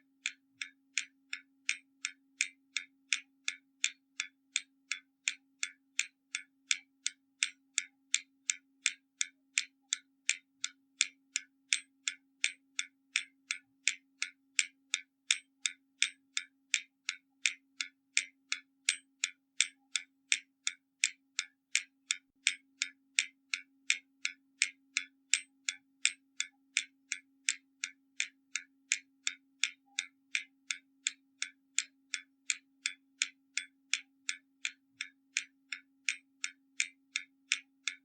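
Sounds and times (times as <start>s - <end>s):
clock ticking: 0.0s - 38.0s.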